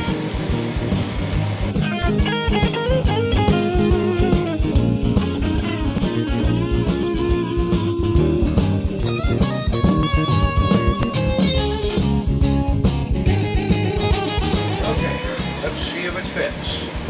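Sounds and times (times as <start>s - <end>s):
guitar-led music with bass and drums: 0.0s - 17.0s.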